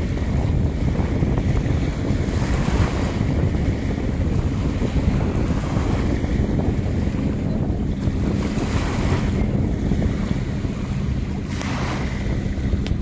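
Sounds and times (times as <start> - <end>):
small waves lapping on sand: 0.0 - 13.0
wind buffeting microphone: 0.0 - 13.0.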